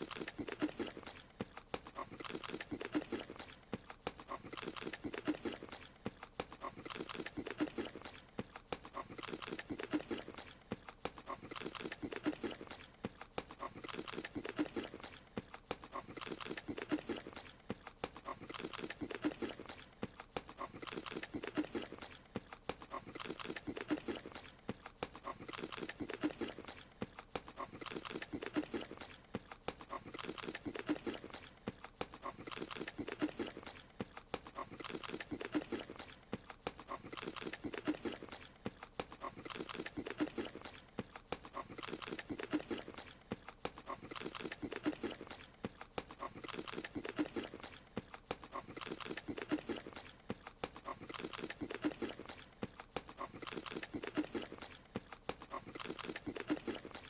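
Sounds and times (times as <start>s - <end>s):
cartoon creature chewing: 0.0s - 57.0s.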